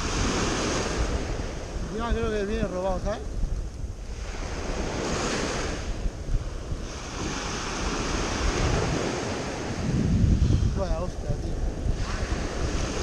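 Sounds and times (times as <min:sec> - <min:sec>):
small waves breaking on sand: 0:00.0 - 0:02.5, 0:03.9 - 0:13.0
wind buffeting microphone: 0:00.0 - 0:13.0.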